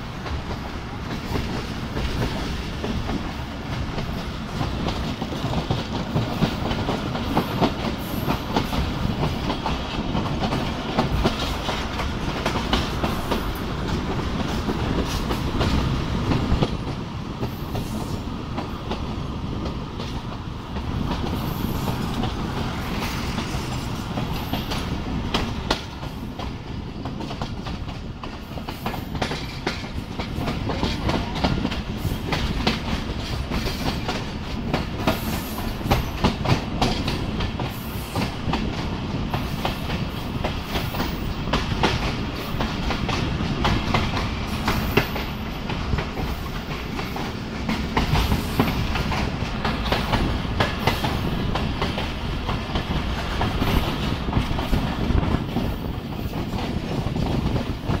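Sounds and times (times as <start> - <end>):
train coach rumble: 0.0 - 58.0.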